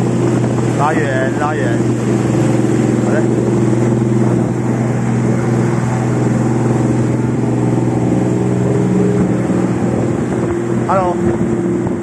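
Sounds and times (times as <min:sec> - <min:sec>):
boat engine droning: 0:00.0 - 0:12.0
water rushing past hull: 0:00.0 - 0:12.0.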